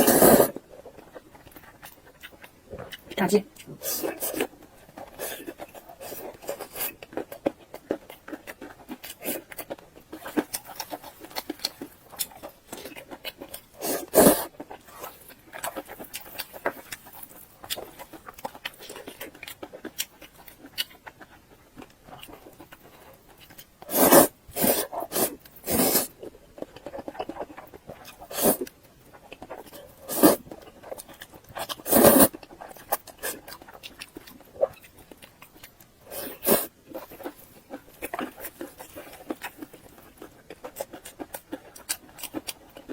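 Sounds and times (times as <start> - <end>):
wet chewing and lip smacking: 0.4 - 42.9.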